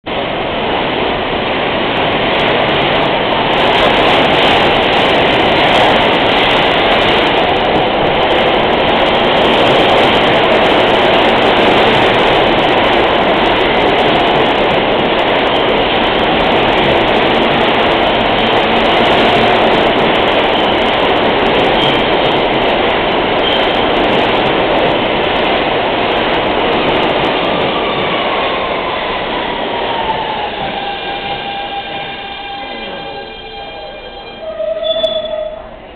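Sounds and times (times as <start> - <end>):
subway train wheels on rails: 0.0 - 35.9
falling whine of train slowing: 0.1 - 35.9.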